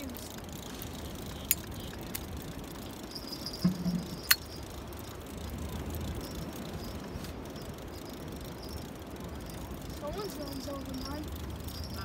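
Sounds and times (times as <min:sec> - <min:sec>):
sea noise: 0:00.0 - 0:12.0
wind: 0:00.0 - 0:12.0.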